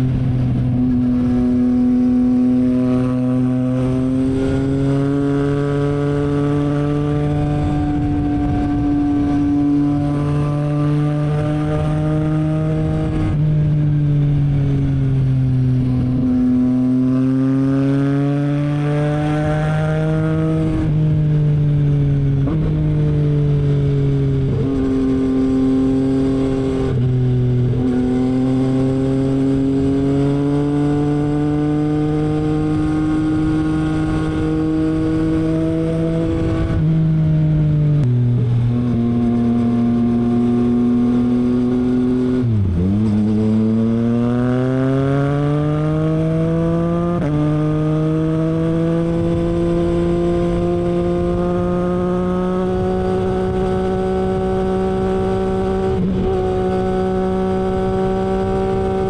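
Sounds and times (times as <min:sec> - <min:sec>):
motorcycle engine at speed: 0:00.0 - 0:59.0.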